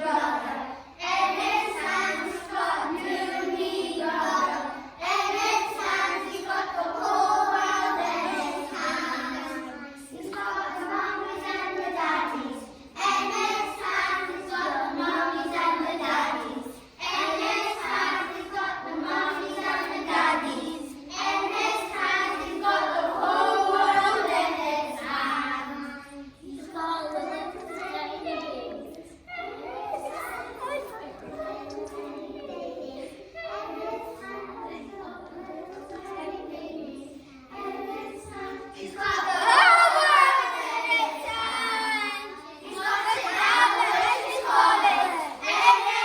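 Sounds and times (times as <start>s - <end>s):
children singing: 0.0s - 46.0s.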